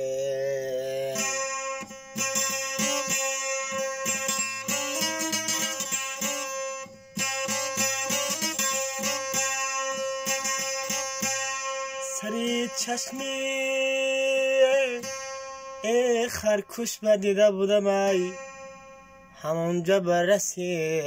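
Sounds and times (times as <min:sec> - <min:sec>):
plucked string instrument melody: 0:00.0 - 0:21.0.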